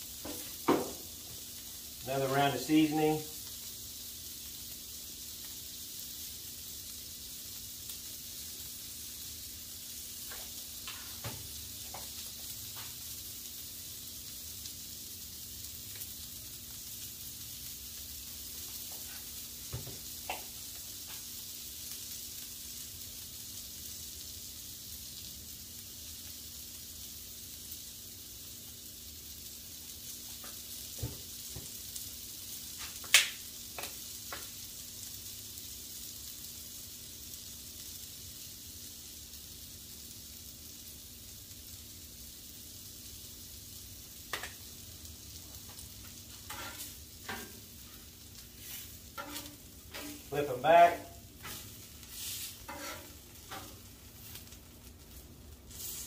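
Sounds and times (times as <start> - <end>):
burger patties sizzling on griddle: 0.0 - 56.0
grease popping: 0.0 - 56.0.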